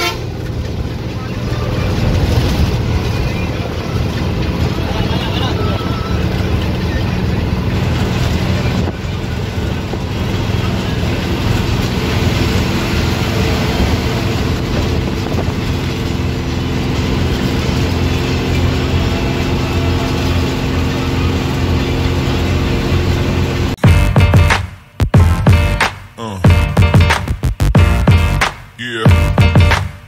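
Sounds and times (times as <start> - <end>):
road and wind noise: 0.0 - 26.2
bus engine running: 0.0 - 30.0.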